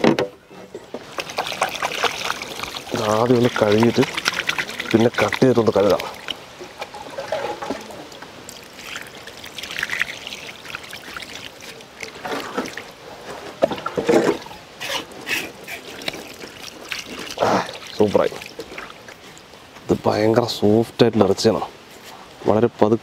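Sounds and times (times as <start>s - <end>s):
water trickling and splashing: 0.4s - 22.4s.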